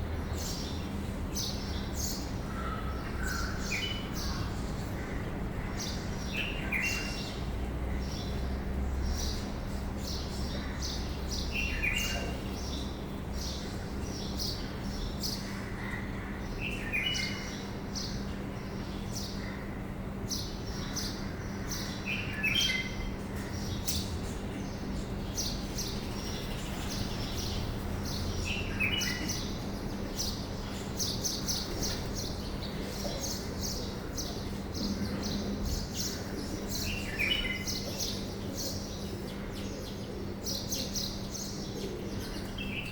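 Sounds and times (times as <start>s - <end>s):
birds chirping: 0.4s - 42.9s.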